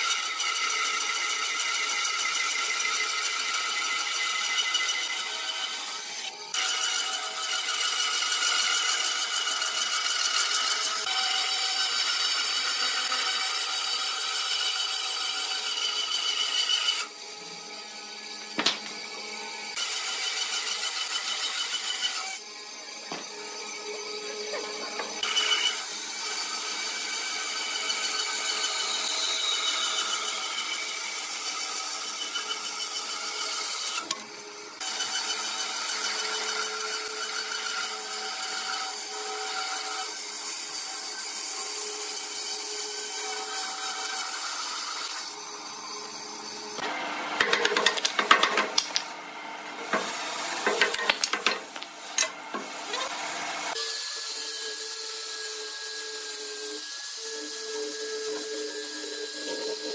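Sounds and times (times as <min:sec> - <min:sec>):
angle grinder sanding wood: 0:00.0 - 0:49.0, 0:49.6 - 0:59.9
band saw cutting wood: 0:00.0 - 0:59.9.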